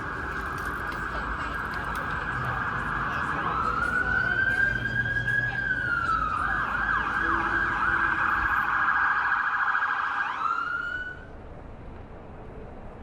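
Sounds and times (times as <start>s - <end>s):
emergency siren wailing: 0.0s - 11.3s.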